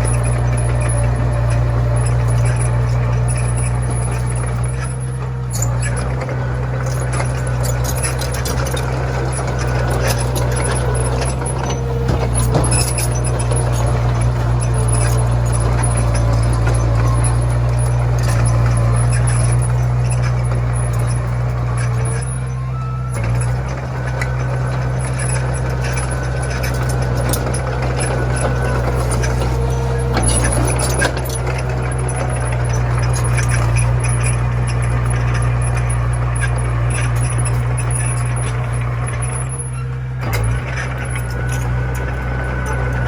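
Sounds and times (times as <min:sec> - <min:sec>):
bulldozer engine running: 0:00.0 - 0:43.0
clanks and rattles: 0:00.0 - 0:43.0.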